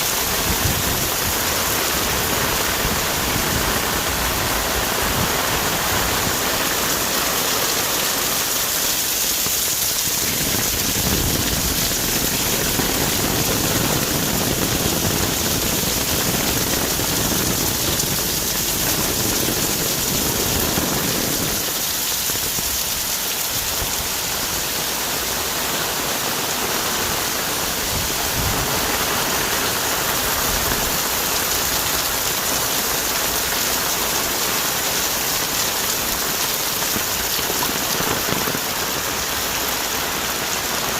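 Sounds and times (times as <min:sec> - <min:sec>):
heavy rain on foliage: 0:00.0 - 0:40.9.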